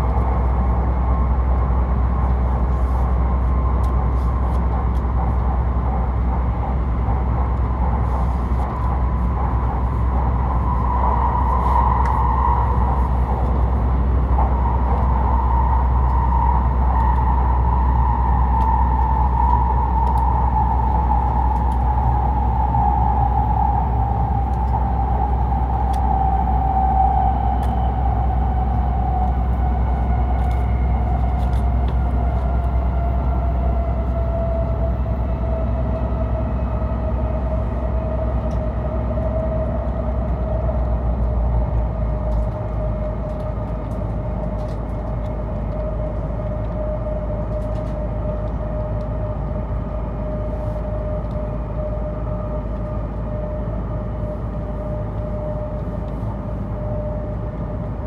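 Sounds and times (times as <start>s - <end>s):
rumble of wheels and air: 0.0s - 58.0s.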